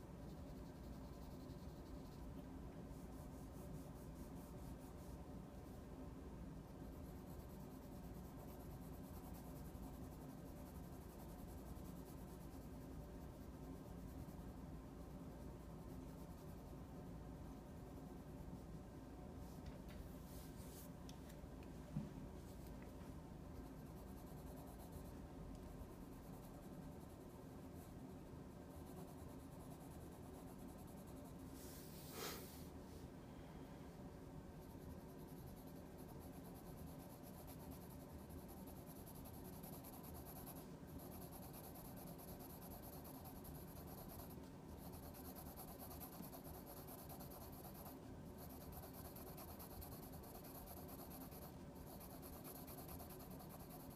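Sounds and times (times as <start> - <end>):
pencil scratching on paper: 0.2 - 5.8, 6.7 - 16.9, 23.6 - 32.5, 34.6 - 53.9.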